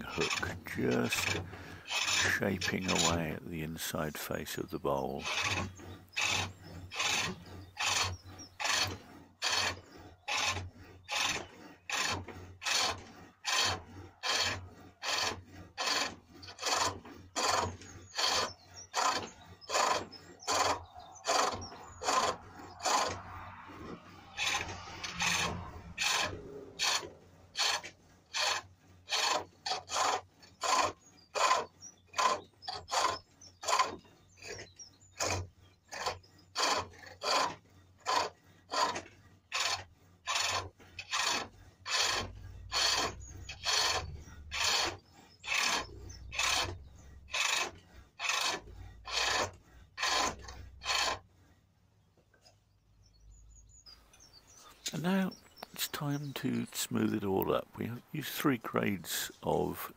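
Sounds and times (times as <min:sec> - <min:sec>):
steel hook scraping wood: 0:00.0 - 0:59.9.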